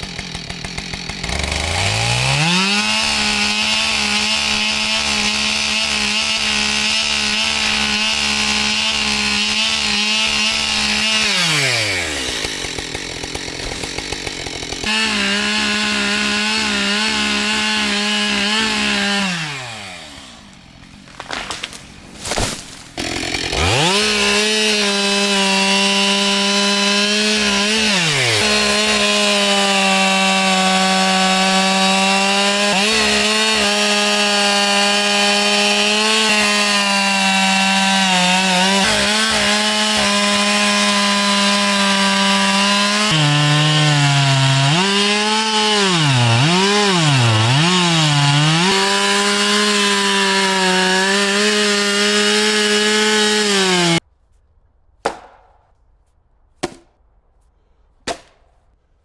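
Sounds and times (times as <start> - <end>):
chainsaw cutting wood: 0.0 - 54.1.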